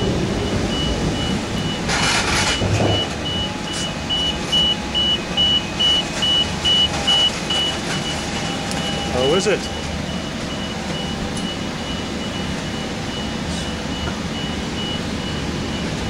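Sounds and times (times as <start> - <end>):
engine low rumble: 0.0 - 16.0
reversing alarm beeping: 0.0 - 16.0.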